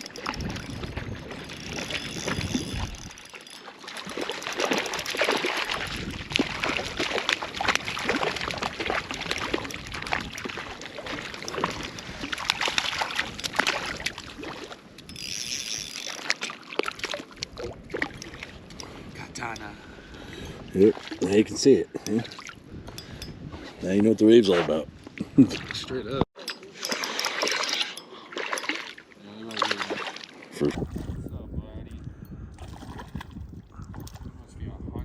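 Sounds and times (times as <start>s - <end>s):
water splashing and trickling: 0.0s - 23.4s, 25.4s - 34.8s.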